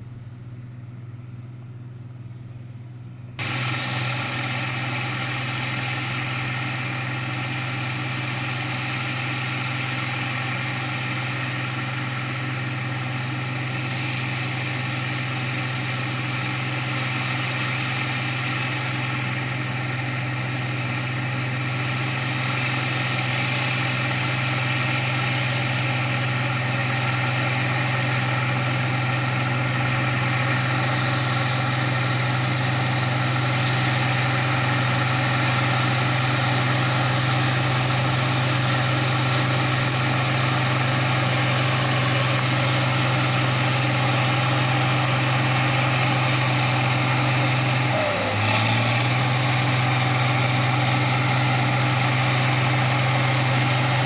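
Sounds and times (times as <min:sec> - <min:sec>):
tractor diesel engines droning: 0:00.0 - 0:54.0.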